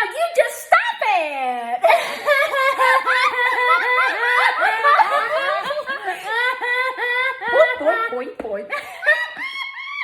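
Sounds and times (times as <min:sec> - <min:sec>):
women laughing: 0:01.8 - 0:10.0.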